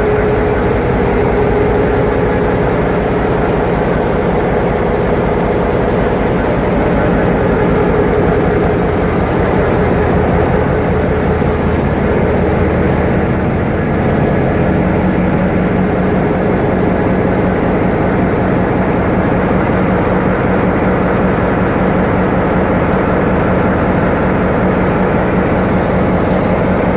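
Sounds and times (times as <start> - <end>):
locomotive diesel engine drone: 0.0 - 26.9.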